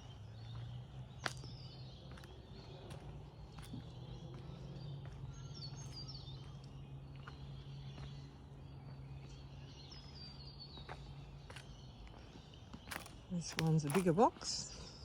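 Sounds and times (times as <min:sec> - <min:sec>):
bird song with descending notes: 0:00.0 - 0:15.0.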